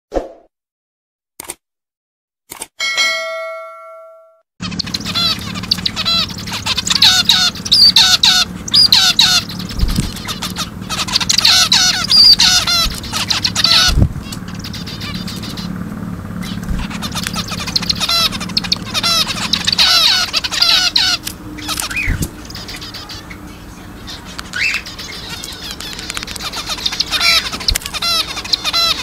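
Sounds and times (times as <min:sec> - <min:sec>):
finches calling: 0:04.6 - 0:29.0.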